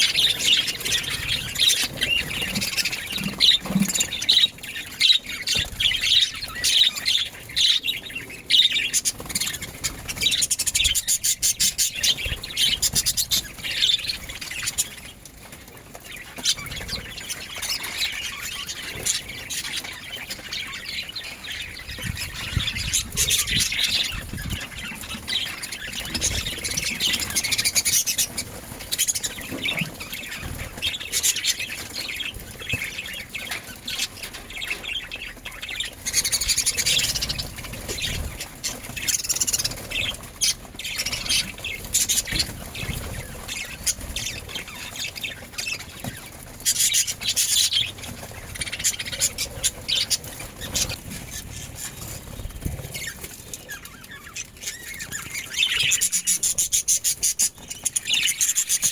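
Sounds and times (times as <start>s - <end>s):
budgerigars chirping: 0.0s - 15.1s, 16.1s - 58.9s.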